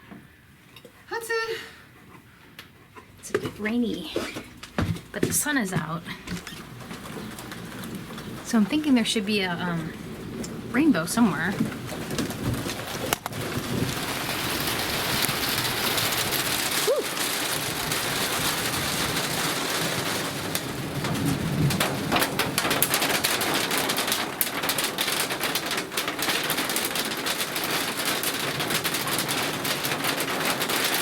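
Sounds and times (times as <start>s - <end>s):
steady rain falling: 3.7s - 31.0s.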